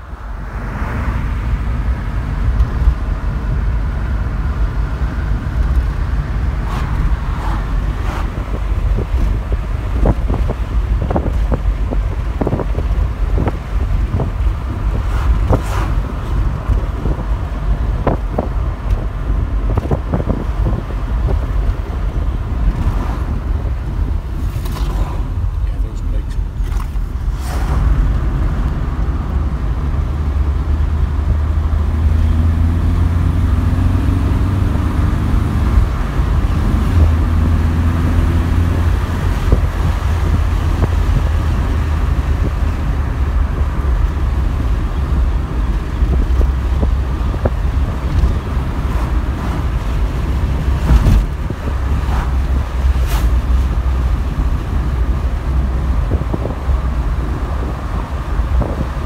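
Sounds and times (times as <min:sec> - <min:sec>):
car engine: 0:00.0 - 0:59.0
road rumble: 0:00.0 - 0:59.0.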